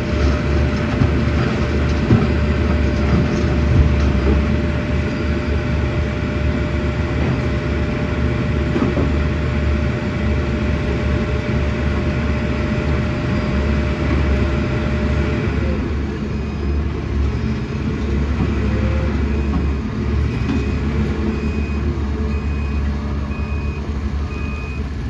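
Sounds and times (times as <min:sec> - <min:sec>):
excavator diesel engine drone: 0:00.0 - 0:25.0.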